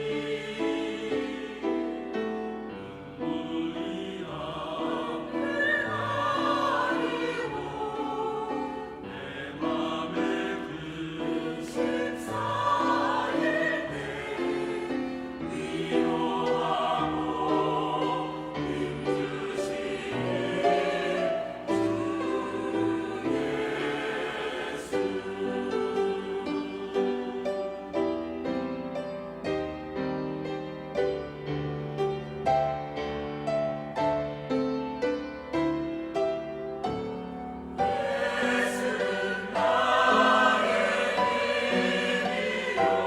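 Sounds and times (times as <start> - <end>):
church choir singing a hymn: 0.0 - 43.0.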